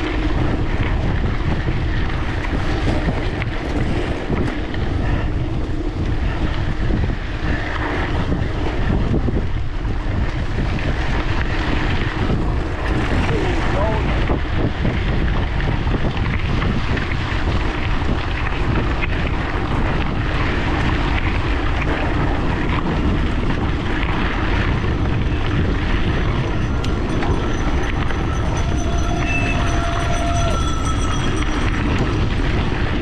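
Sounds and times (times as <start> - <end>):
bicycle tyre rumble: 0.0 - 33.0
wind rushing over microphone: 0.0 - 33.0.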